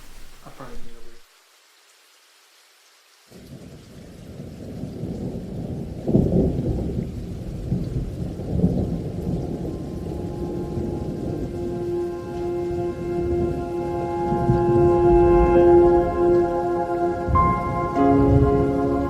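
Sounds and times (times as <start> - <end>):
thunder rumbling: 0.0 - 1.2, 4.6 - 19.0
rain: 0.0 - 19.0.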